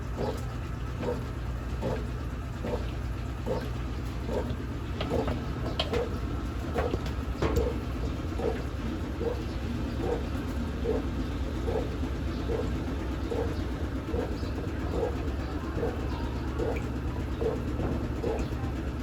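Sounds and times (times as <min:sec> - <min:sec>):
washing machine motor hum: 0:00.0 - 0:19.0
water swishing in drum: 0:00.0 - 0:19.0.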